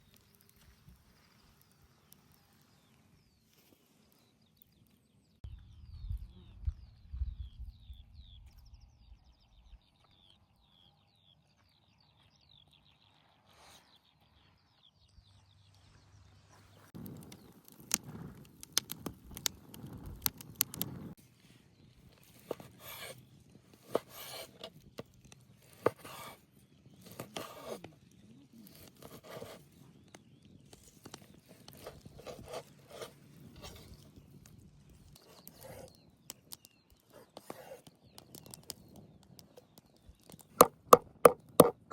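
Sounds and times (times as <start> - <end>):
faint bird chirps: 0.0 - 18.3, 25.2 - 40.6.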